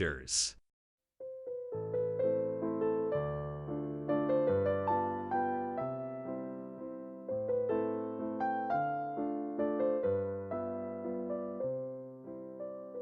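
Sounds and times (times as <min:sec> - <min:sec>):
gentle electric piano: 0:01.2 - 0:13.0.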